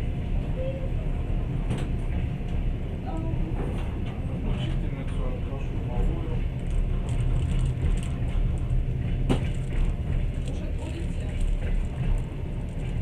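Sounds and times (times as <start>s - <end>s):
train carriage rumbling: 0.0s - 13.0s.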